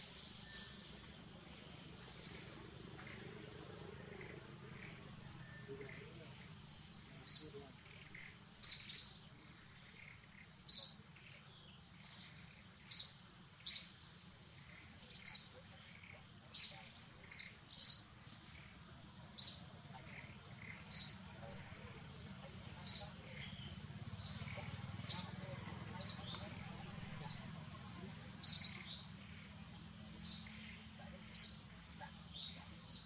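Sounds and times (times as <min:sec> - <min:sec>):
bird chirping: 0:00.0 - 0:33.0
faint high-pitched hum: 0:00.0 - 0:33.0.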